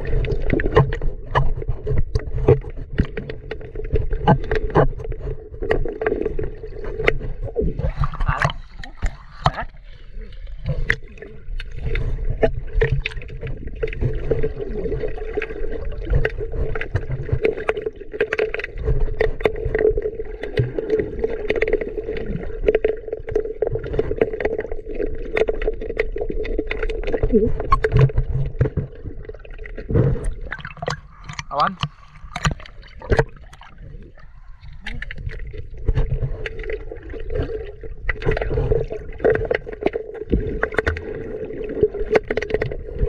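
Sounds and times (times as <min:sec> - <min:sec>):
muffled underwater rumble: 0:00.0 - 0:43.0.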